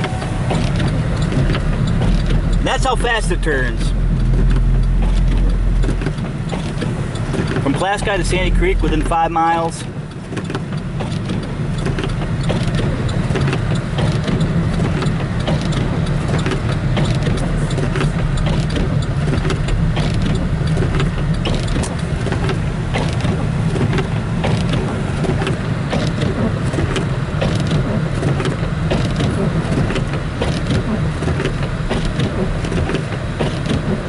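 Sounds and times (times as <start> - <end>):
car engine and road noise: 0.0 - 34.0
light ticks: 0.5 - 34.0.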